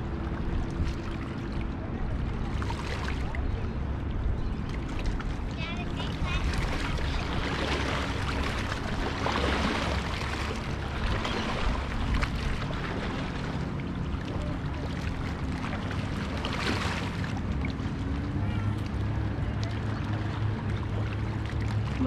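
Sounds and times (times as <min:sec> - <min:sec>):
motorboat engine drone: 0:00.0 - 0:22.0.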